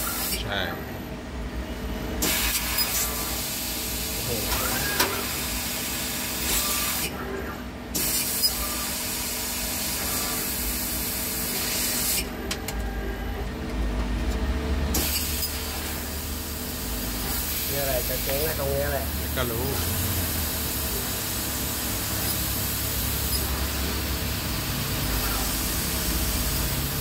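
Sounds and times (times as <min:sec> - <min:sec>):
laser cutter gas jet hissing: 0:00.0 - 0:00.4, 0:02.2 - 0:07.2, 0:07.9 - 0:12.3, 0:14.9 - 0:27.0
low machine hum: 0:00.0 - 0:27.0.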